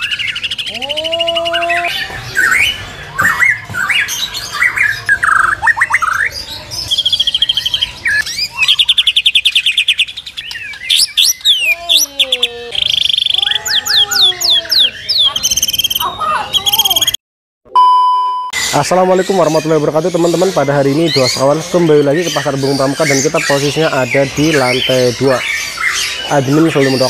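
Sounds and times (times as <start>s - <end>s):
songbirds singing: 0.0s - 17.2s, 18.6s - 27.0s.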